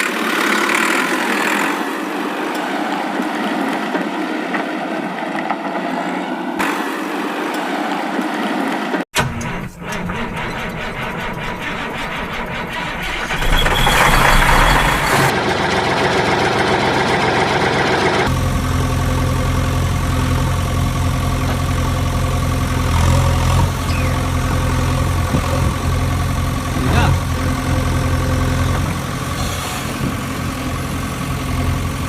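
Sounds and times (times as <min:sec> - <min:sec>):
engine running: 0:00.0 - 0:32.0.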